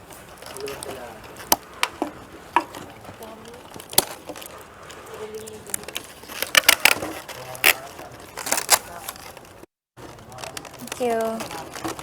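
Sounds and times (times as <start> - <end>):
building materials being handled: 0.0 - 12.0
faint voices: 0.0 - 12.0.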